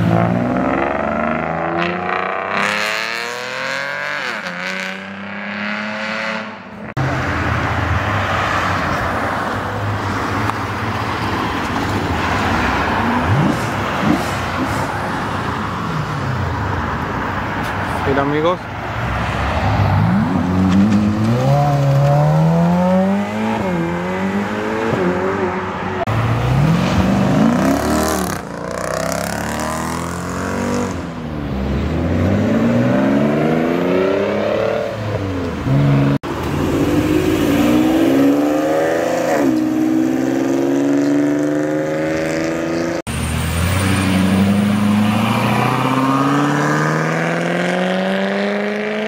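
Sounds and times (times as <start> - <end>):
car engines accelerating hard: 0.0 - 49.0
cars sweeping past: 0.0 - 49.0.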